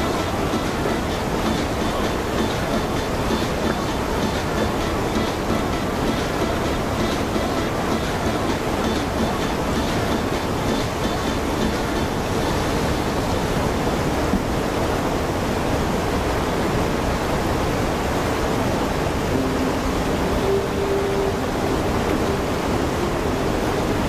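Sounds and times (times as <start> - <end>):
river rapids rushing over rocks: 0.0 - 24.0.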